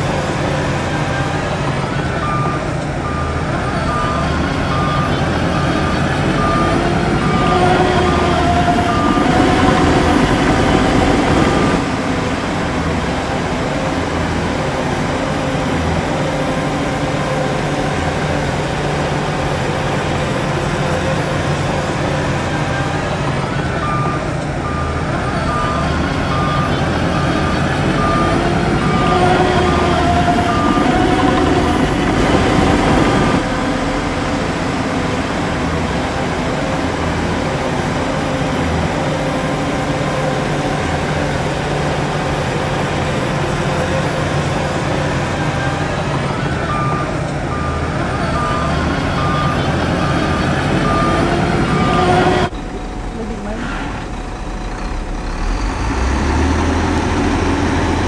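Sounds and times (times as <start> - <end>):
heavy diesel engine rumble: 0.0 - 58.0
reversing alarm beeping: 0.0 - 58.0.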